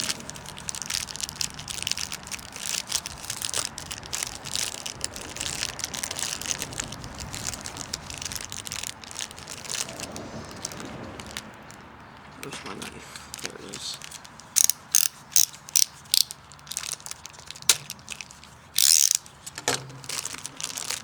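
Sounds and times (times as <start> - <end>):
plastic packaging crinkling: 0.0 - 11.8, 13.3 - 21.0.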